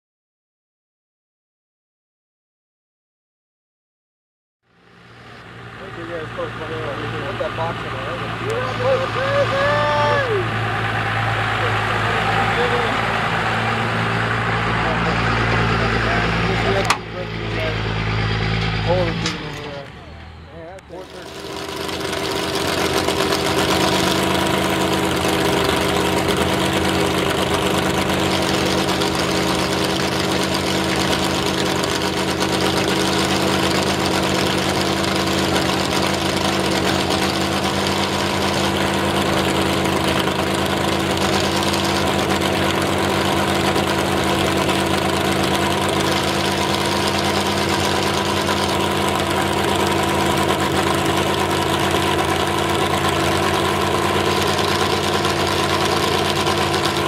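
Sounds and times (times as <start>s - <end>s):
truck engine idling: 4.7s - 57.0s.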